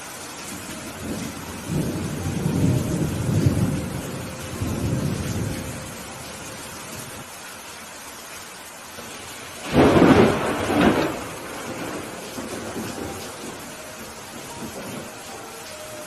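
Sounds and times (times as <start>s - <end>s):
steady rainfall: 0.0s - 16.0s
thunder rumbling: 0.6s - 7.3s, 9.0s - 16.0s.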